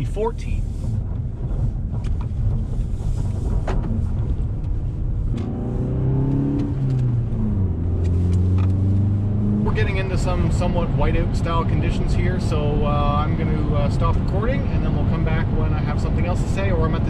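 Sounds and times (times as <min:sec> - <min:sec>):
car engine accelerating: 0:00.0 - 0:17.0
engine and tyre rumble: 0:00.0 - 0:17.0.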